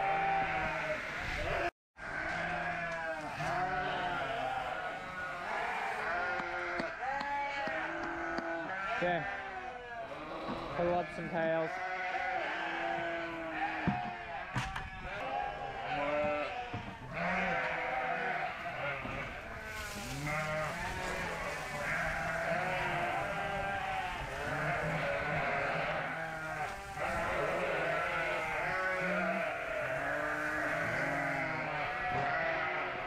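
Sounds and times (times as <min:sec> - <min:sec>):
sheep and lambs bleating: 0:00.0 - 0:33.0.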